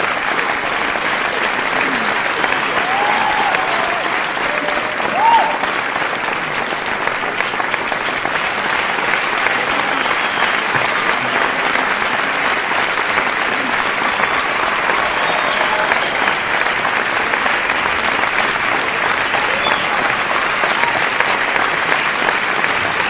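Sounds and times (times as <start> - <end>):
crowd applauding: 0.0 - 23.0.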